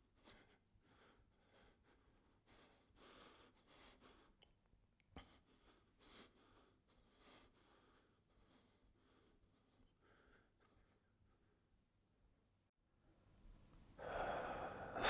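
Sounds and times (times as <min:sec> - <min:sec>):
man breathing faintly: 0:00.0 - 0:04.5, 0:05.1 - 0:11.7, 0:14.0 - 0:15.0.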